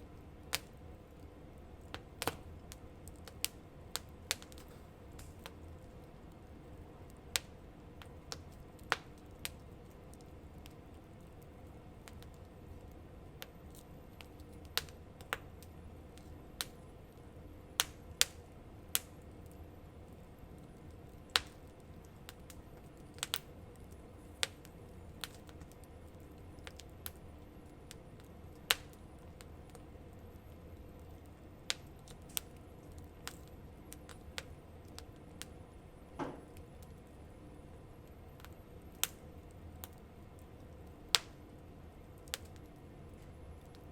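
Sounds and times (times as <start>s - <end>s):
campfire crackling and popping: 0.0s - 35.7s, 36.4s - 43.9s.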